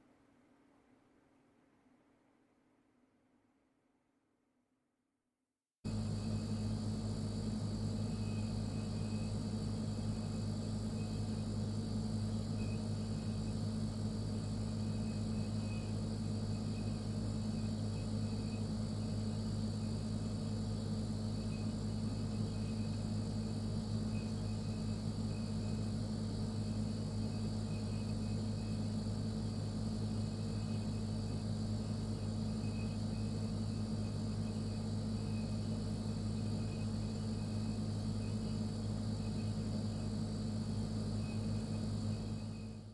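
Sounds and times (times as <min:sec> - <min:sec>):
faint high whine: 0:05.9 - 0:42.9
refrigerator humming: 0:05.9 - 0:42.9.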